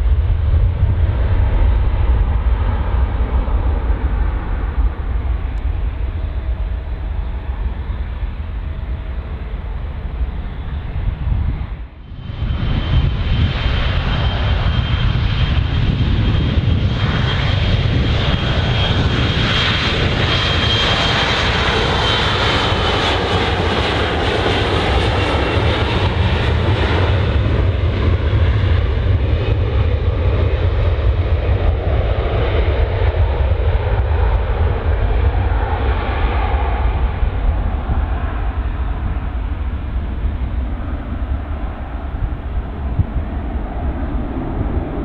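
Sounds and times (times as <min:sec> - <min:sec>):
high engine whine: 0:00.0 - 0:45.0
jet engines rumbling: 0:00.0 - 0:45.0.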